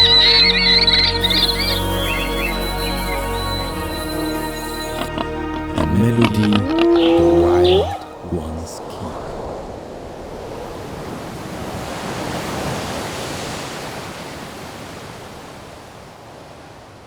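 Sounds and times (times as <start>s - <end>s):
rushing nature ambience: 0.0s - 16.9s.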